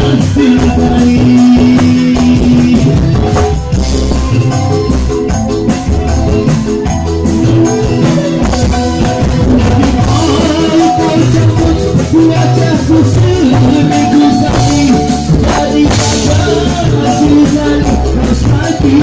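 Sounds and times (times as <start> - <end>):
drums and percussion beat: 0.0 - 19.0
live band amplified music: 0.0 - 19.0.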